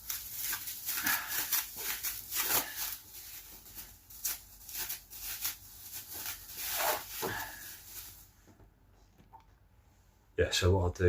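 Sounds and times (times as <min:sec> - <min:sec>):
disposable gloves rustling and crinkling: 0:00.0 - 0:09.3.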